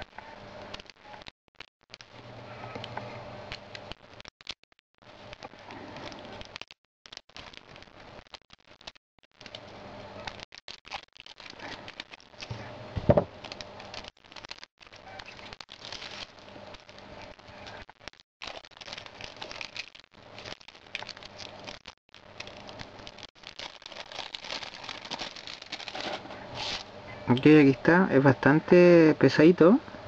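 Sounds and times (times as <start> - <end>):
packaging crinkling and rustling: 0.6 - 26.9.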